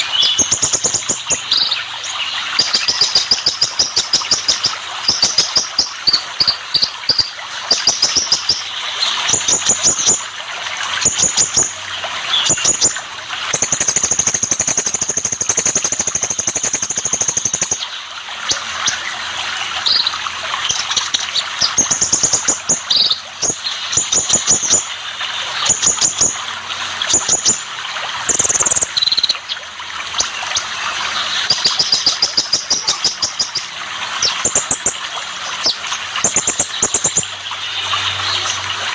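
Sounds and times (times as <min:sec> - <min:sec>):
bird chirping and twittering: 0:00.0 - 0:10.3, 0:11.0 - 0:19.1, 0:19.8 - 0:26.4, 0:27.0 - 0:38.9
running water: 0:00.0 - 0:38.9.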